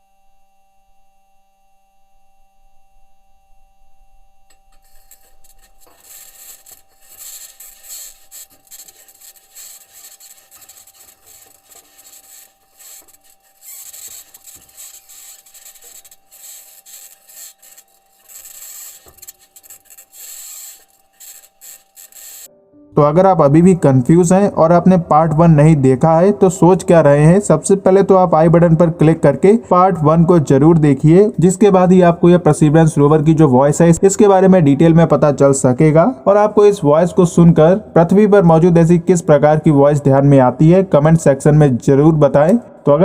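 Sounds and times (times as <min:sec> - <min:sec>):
steady electrical hum: 0:00.0 - 0:43.0.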